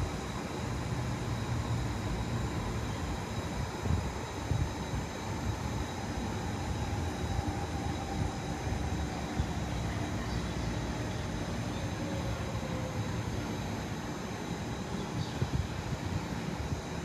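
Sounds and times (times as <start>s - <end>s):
faint thin steady tones: 0.0s - 17.0s.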